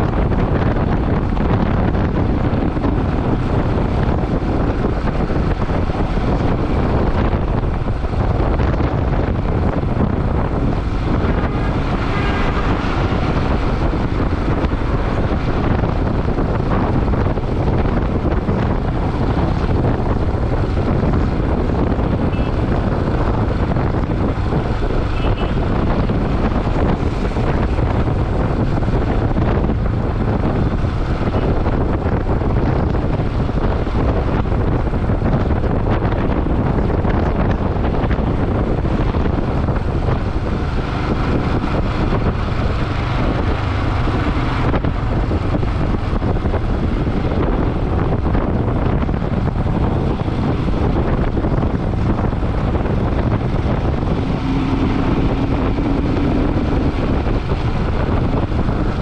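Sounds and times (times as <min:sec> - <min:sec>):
motorcycle engine: 0:00.0 - 0:59.0
wind on microphone: 0:00.0 - 0:59.0.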